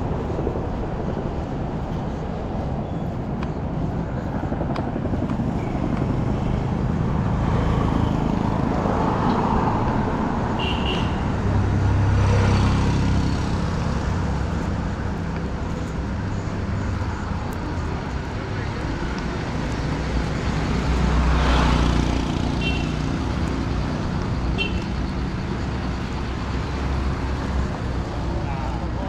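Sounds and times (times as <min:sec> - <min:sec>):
vehicles running past: 0:00.0 - 0:29.0.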